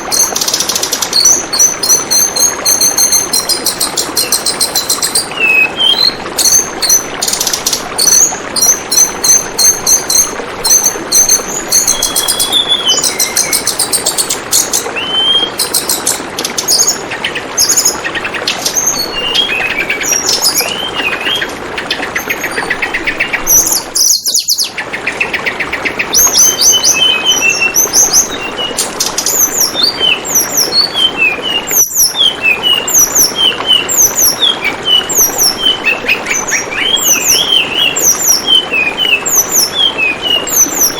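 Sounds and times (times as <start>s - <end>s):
birds chirping and trilling: 0.0s - 40.9s
gently flowing water: 0.0s - 40.9s.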